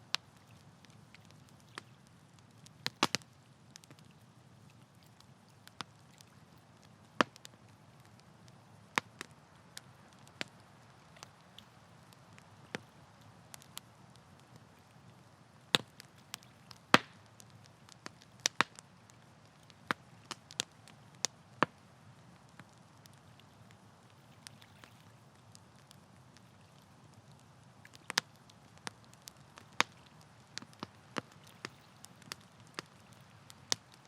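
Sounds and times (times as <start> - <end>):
faint steady hiss: 0.0 - 34.0
wood fire crackling: 0.0 - 34.0.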